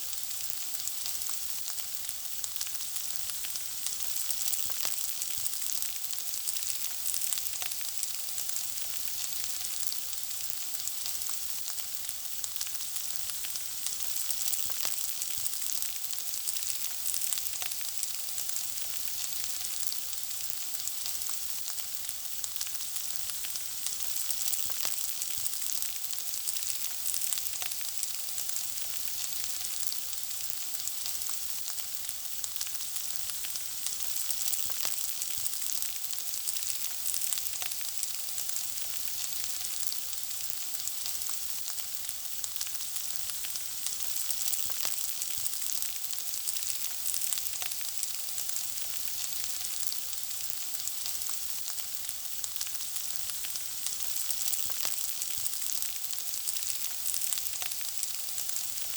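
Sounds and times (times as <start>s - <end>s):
food sizzling in hot fat: 0.0s - 58.9s.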